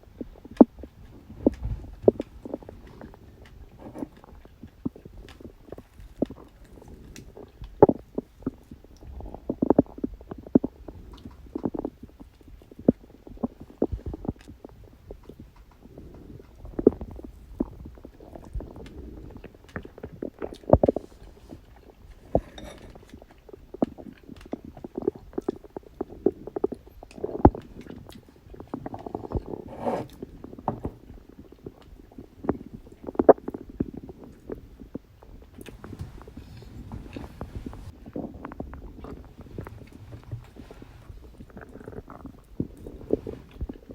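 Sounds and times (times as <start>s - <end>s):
stomach growling and gurgling: 0.0s - 43.9s.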